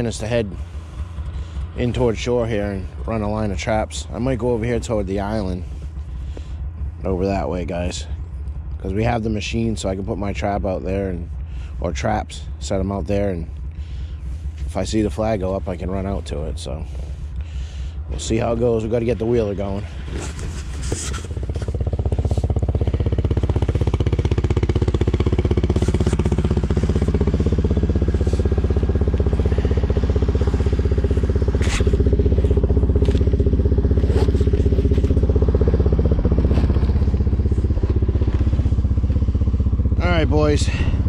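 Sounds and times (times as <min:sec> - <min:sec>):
atv engine idling: 0:00.0 - 0:41.0.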